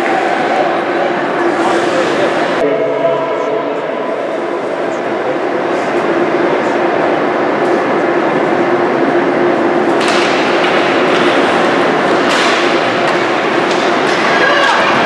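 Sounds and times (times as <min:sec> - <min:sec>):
crowd din in sports venue: 0:00.0 - 0:15.0.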